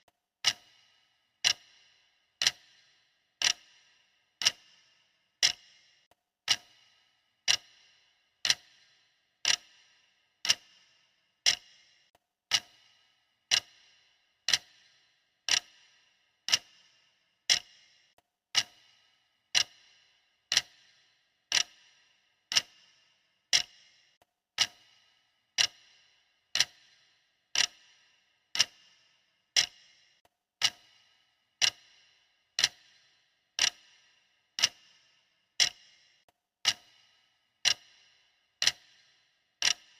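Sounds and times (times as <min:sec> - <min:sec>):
stopwatch ticking: 0:00.0 - 0:39.9.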